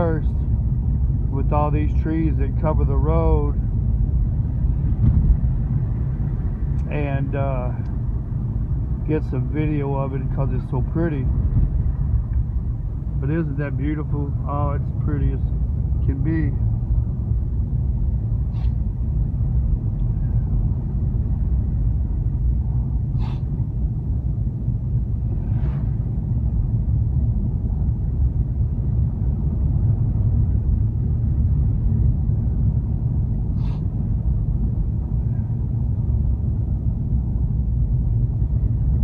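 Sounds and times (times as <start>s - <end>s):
car road noise inside cabin: 0.0s - 39.0s.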